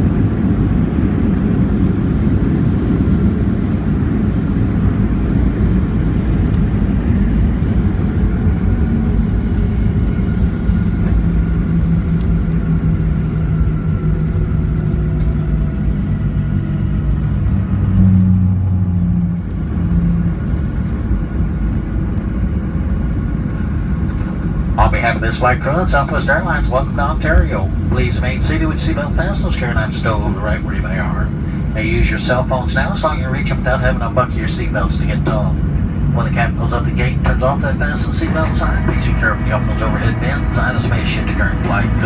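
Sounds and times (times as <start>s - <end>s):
humming engine tone: 0.0s - 42.0s
low rumble of engines and wheels: 0.0s - 42.0s.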